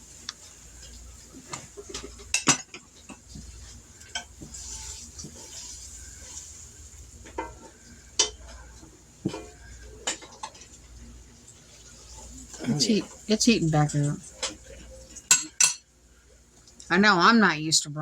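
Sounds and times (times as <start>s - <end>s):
chicken frying with faint sizzle: 0.0s - 18.0s.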